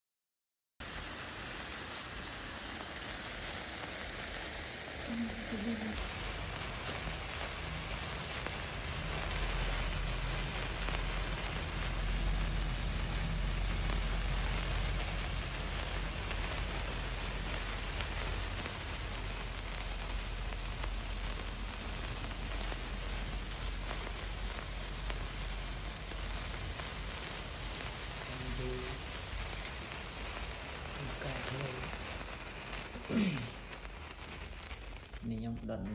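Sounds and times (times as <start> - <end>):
sparklers hissing and crackling: 0.8 - 35.9.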